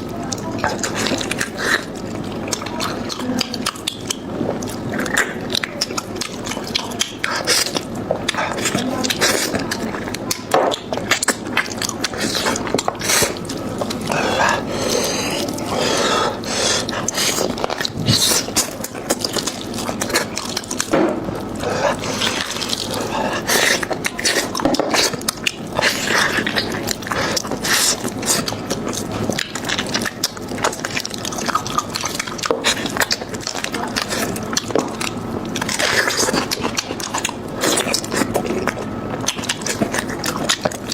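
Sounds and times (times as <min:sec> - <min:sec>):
close-miked biting and chewing: 0:00.0 - 0:40.9.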